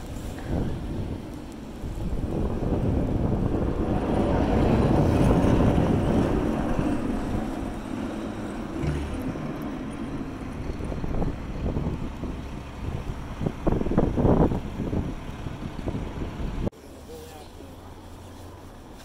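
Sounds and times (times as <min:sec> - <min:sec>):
vehicle driving past: 0:00.3 - 0:16.7.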